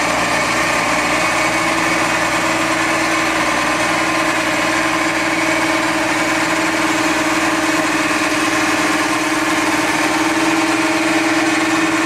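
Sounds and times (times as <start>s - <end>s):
orchard spraying robot engine: 0.0s - 12.0s.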